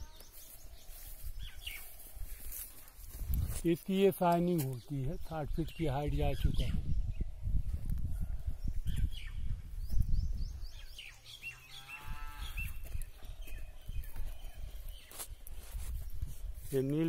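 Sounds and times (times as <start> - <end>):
wind buffeting microphone: 0.0 - 3.6, 4.9 - 11.4, 12.0 - 17.0.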